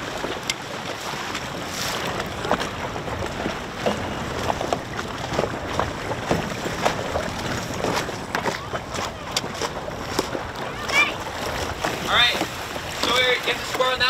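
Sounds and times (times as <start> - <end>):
water slapping against boat hull: 0.0 - 14.0
wind on microphone: 0.0 - 14.0.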